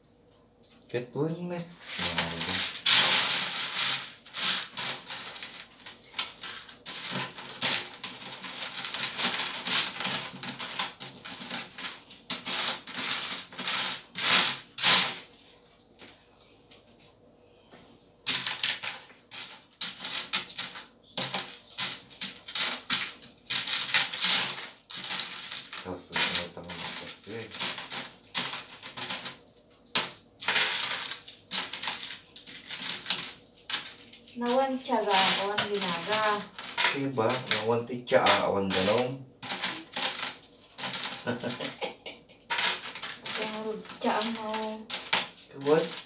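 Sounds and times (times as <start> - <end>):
coins clinking in plastic bowl: 1.4 - 15.5, 18.3 - 41.8, 42.4 - 46.0.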